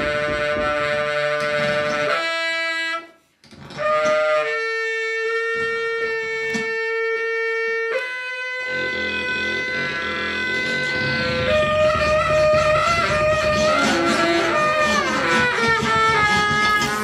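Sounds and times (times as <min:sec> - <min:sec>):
saxophone sustained notes: 0:00.0 - 0:17.0.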